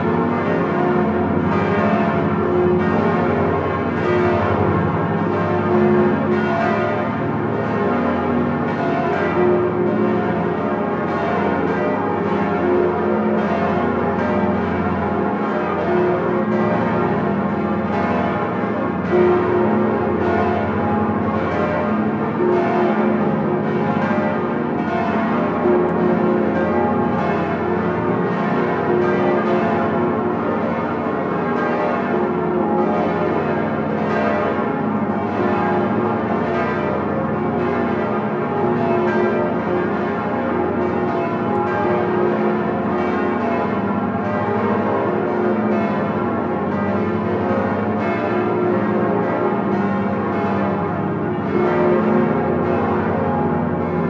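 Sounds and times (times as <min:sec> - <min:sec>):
church bells ringing in full peal: 0:00.0 - 0:54.0.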